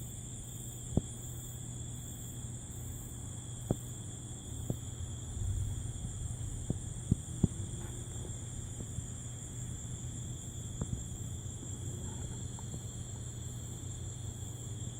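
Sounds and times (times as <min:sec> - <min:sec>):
crickets trilling: 0:00.0 - 0:14.9
low steady hum: 0:00.0 - 0:14.9.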